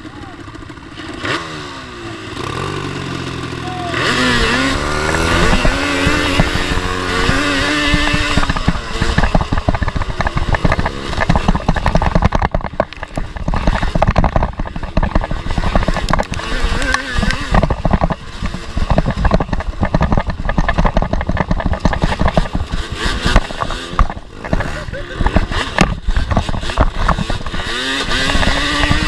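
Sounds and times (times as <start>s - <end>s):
two-stroke engine revving: 0.0s - 29.0s
knocks and rattles over rough ground: 4.1s - 29.0s.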